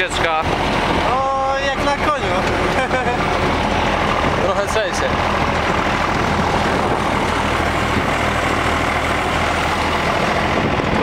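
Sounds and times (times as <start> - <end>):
tractor engine running: 0.0 - 11.0
trailer travel rumble: 0.0 - 11.0.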